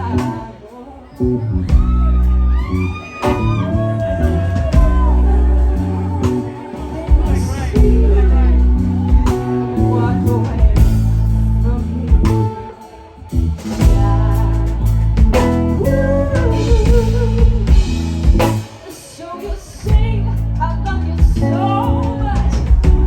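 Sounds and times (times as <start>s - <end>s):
live band playing blues ballad: 0.0s - 23.0s
person singing: 0.0s - 23.0s.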